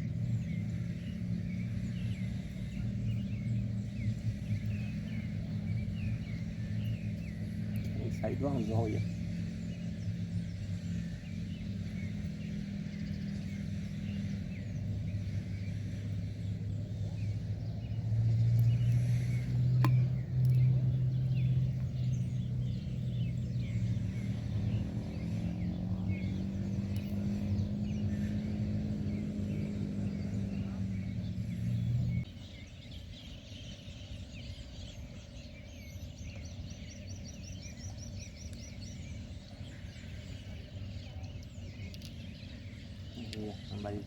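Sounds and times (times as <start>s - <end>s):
faint bird chirps: 0.0s - 44.0s
motor engine running: 0.0s - 44.0s.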